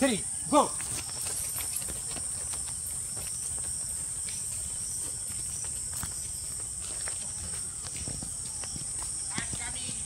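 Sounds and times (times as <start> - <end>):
insects trilling: 0.0 - 10.0
running footsteps on pavement: 0.0 - 10.0.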